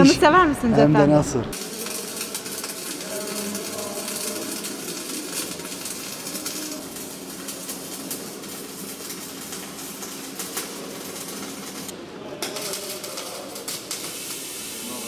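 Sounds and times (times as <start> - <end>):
welding arc crackling and popping: 1.5 - 15.0.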